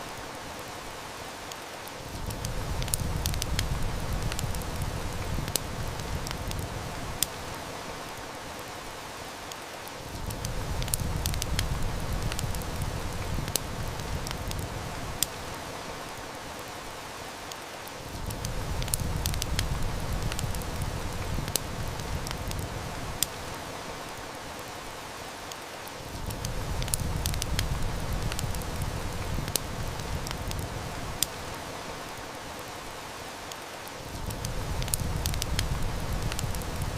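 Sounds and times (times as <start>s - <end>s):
heavy rain hissing: 0.0s - 36.9s
wood fire crackling: 0.0s - 36.9s.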